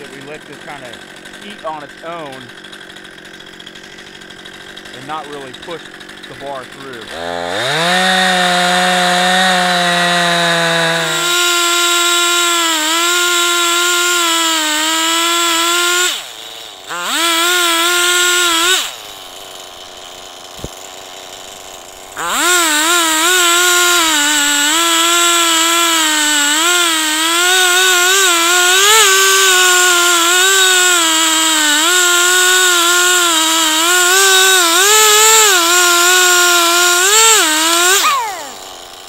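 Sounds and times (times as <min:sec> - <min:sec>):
chainsaw revving and cutting: 0:00.0 - 0:39.0.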